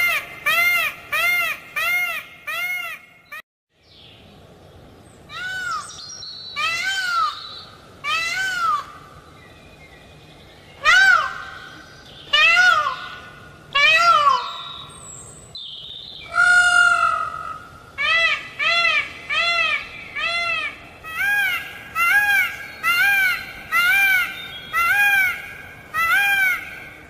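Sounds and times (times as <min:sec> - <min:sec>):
peacock calling: 0:00.0 - 0:03.4, 0:05.3 - 0:06.0, 0:06.6 - 0:09.2, 0:10.8 - 0:15.1, 0:16.2 - 0:27.0.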